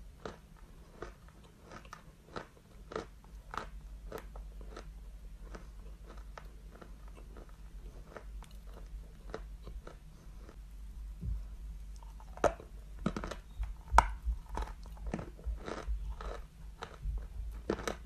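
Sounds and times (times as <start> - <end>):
steady low hum: 0.0 - 18.0
chalk crunching while chewed: 0.2 - 10.6, 11.9 - 18.0.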